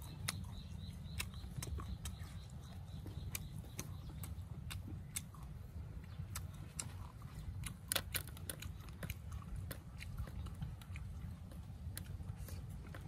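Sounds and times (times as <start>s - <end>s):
crunchy chewing of raw fruit: 0.0s - 13.0s
steady low rumble: 0.0s - 13.0s.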